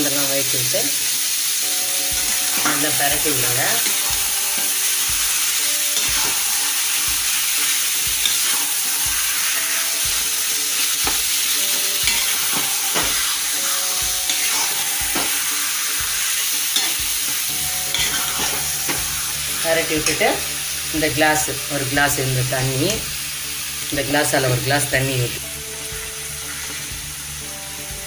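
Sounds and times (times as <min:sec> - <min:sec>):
chicken sizzling in oil: 0:00.0 - 0:28.0.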